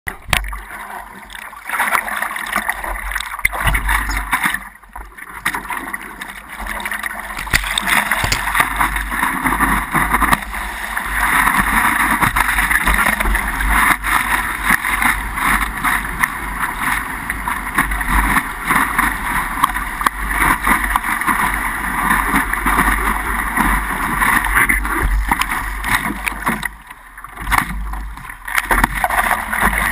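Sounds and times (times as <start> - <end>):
water rushing and splashing: 0.1 - 29.9.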